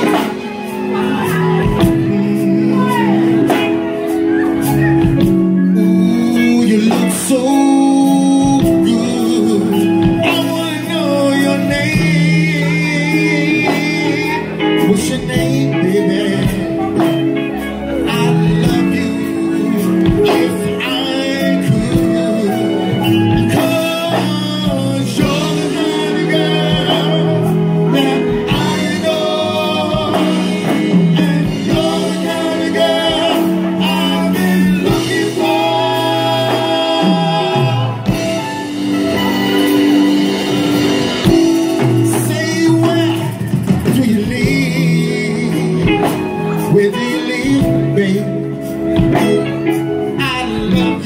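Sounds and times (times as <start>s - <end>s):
drums: 0.0s - 51.0s
keyboards: 0.0s - 51.0s
men singing: 0.0s - 51.0s.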